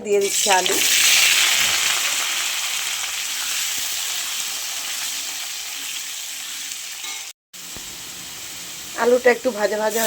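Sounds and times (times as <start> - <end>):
potatoes sizzling in hot oil: 0.1 - 10.0.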